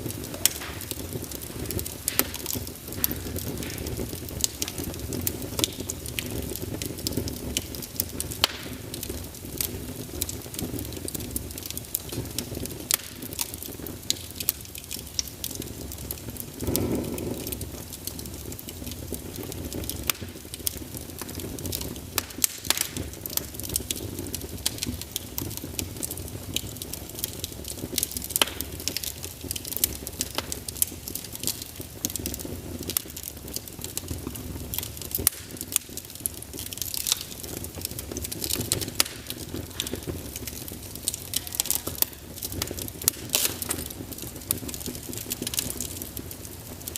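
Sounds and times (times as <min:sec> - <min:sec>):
logs crackling and popping: 0:00.0 - 0:46.9
low rumble of flame: 0:00.0 - 0:46.9.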